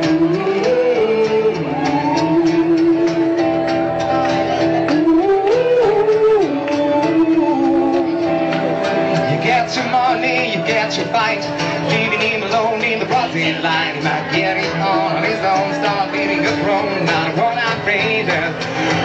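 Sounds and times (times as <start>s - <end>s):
person singing gliding melody: 0.0s - 19.0s.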